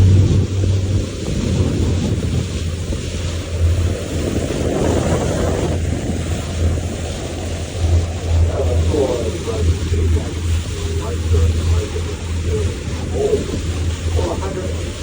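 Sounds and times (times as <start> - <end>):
boat engine humming: 0.0 - 15.0
water rushing: 0.0 - 15.0
wind buffeting microphone: 0.0 - 15.0.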